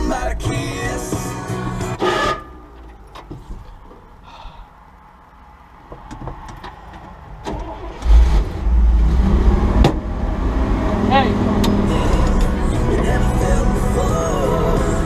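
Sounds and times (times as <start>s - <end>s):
truck engine starting and rumbling: 0.0s - 15.0s.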